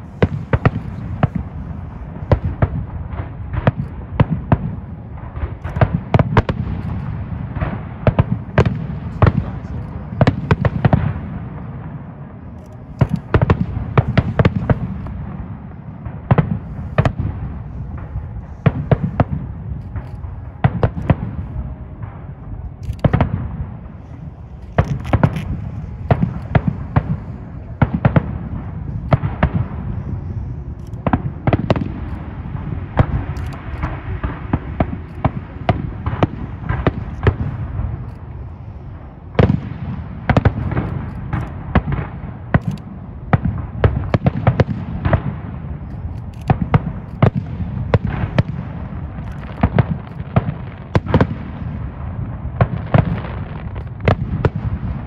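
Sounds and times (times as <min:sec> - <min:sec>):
firework shells bursting: 0:00.0 - 0:11.7, 0:16.0 - 0:51.5
low rumble of distant explosions: 0:00.0 - 0:55.0.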